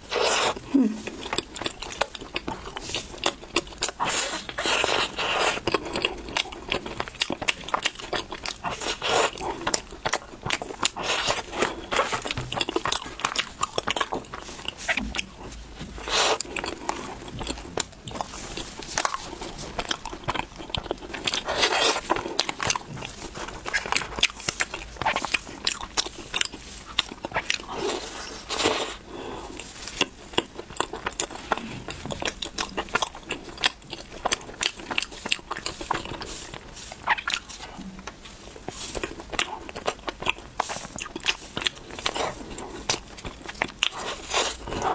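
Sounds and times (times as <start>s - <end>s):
chewing mouth sounds: 0.1s - 44.9s.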